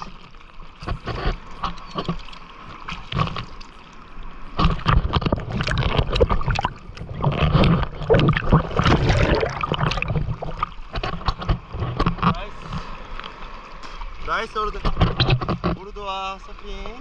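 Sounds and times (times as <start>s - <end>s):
water lapping against surfboard: 0.0s - 17.0s
wave washing over board: 0.8s - 17.0s.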